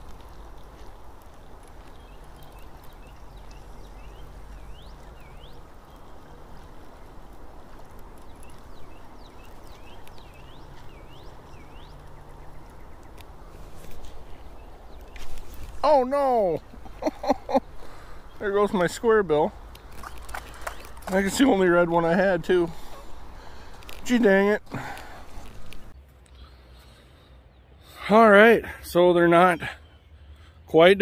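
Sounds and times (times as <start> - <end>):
running river water: 0.0 - 26.0.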